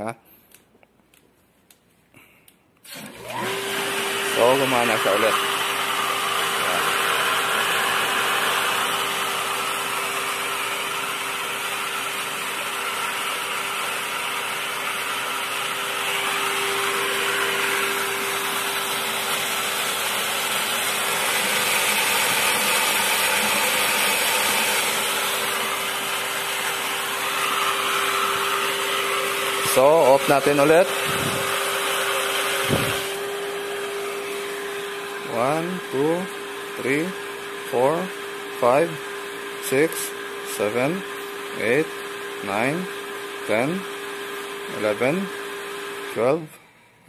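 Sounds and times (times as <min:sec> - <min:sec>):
electric water pump humming: 0:02.9 - 0:46.8.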